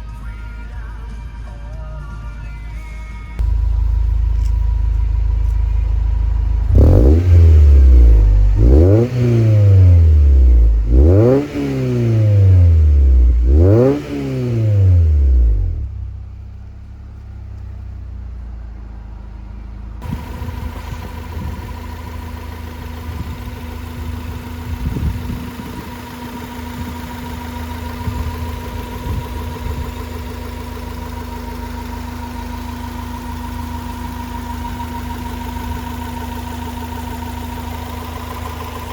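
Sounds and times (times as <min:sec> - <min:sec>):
car engine revving: 0:03.4 - 0:16.1, 0:20.0 - 0:38.9.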